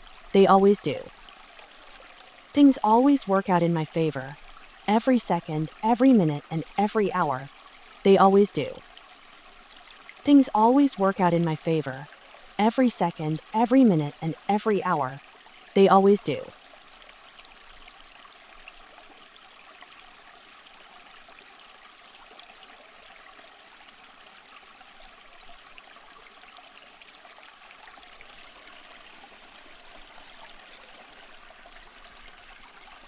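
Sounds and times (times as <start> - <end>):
stream of water trickling: 0.0 - 33.0.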